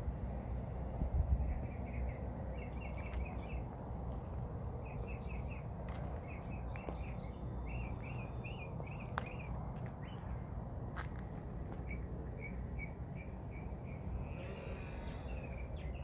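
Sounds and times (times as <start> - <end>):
steady low rumble: 0.0 - 16.0
small birds chirping: 1.4 - 16.0.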